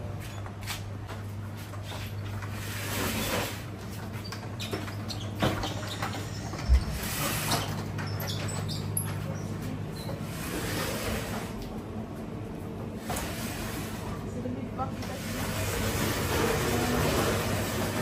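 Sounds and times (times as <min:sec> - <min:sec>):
low cooler hum: 0:00.0 - 0:18.0.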